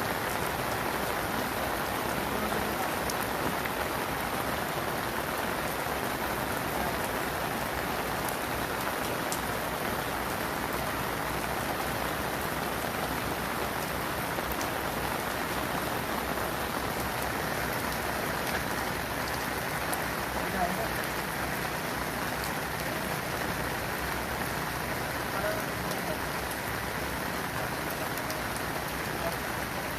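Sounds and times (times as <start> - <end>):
heavy rain on hard surfaces: 0.0 - 29.9.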